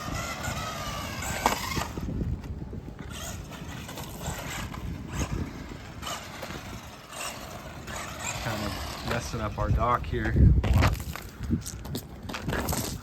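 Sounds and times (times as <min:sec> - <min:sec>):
tires scuffing on rough ground: 0:00.0 - 0:13.0
wind on microphone: 0:00.0 - 0:13.0.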